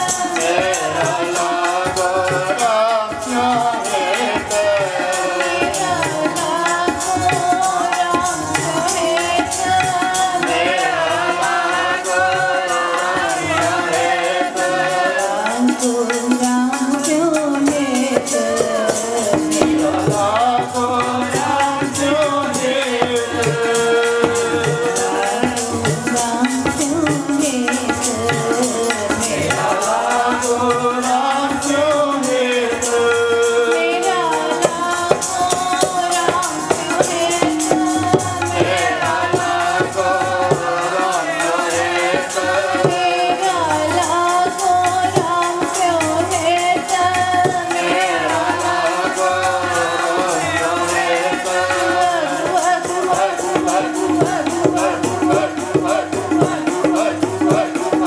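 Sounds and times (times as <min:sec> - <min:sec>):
harmoniums: 0:00.0 - 0:58.0
tabla rhythm: 0:00.0 - 0:58.0
voices singing a devotional chant: 0:00.0 - 0:58.0.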